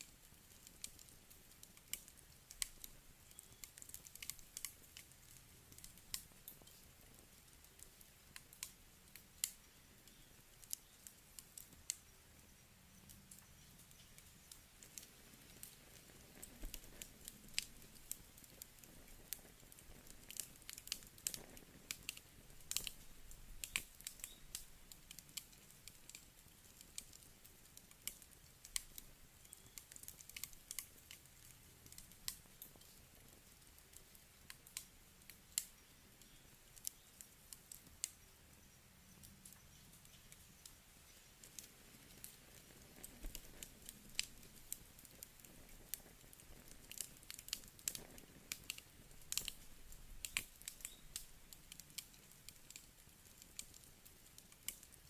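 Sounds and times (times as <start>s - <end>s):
campfire crackling and popping: 0.0s - 55.0s
faint low hiss: 0.0s - 55.0s.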